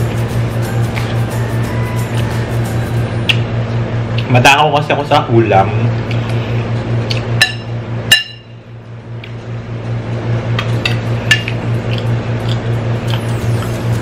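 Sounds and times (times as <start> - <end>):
low hum: 0.0 - 4.3, 5.7 - 14.0.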